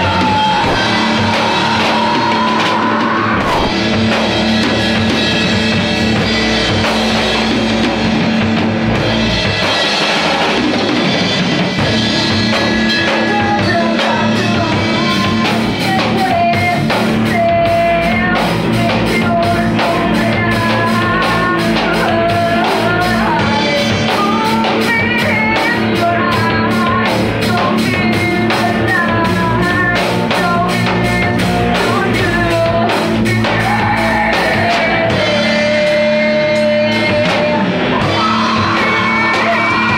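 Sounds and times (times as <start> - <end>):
melodic lead guitar line: 0.0 - 39.9
rock band playing: 0.0 - 39.9.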